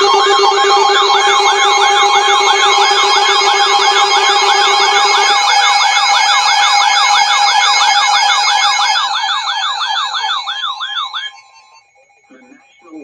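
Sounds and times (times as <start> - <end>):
electronic siren yelping: 0.0 - 13.0.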